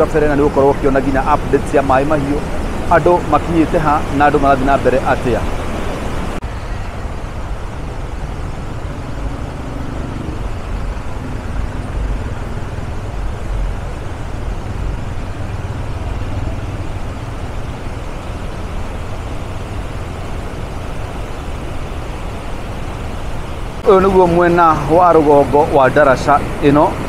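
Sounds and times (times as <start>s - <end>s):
river rushing through rapids: 0.0s - 27.0s.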